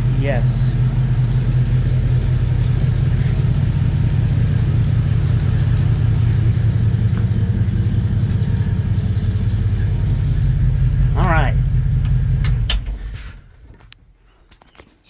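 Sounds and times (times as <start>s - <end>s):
engine running steadily: 0.0s - 13.2s.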